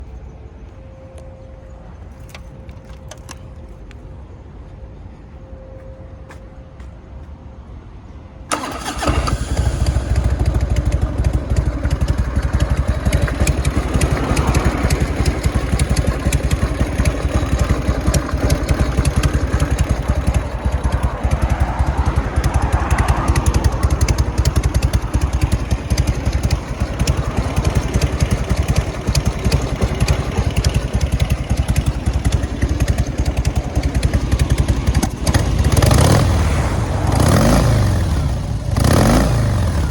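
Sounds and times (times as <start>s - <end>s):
motorcycle engine starting and idling: 2.2s - 3.4s, 8.5s - 39.9s.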